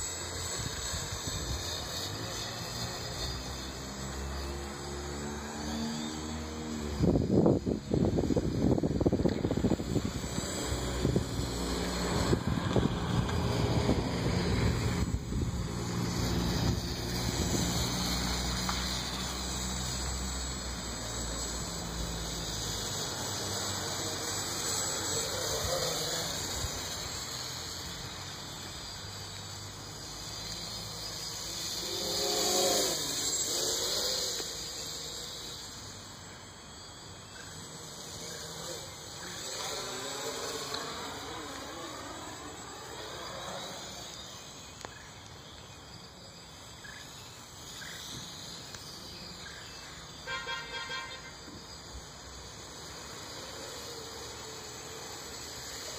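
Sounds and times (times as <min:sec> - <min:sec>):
quadcopter propellers whining: 0:00.0 - 0:55.9.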